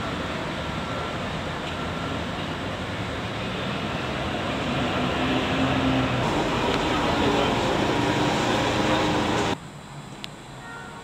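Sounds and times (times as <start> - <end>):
low engine hum: 0.0 - 9.6
city street traffic rumble: 0.0 - 11.0.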